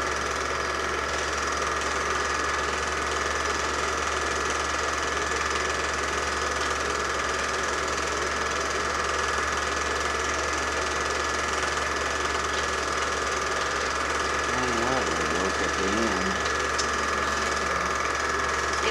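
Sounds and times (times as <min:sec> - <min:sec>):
film projector running: 0:00.0 - 0:18.9.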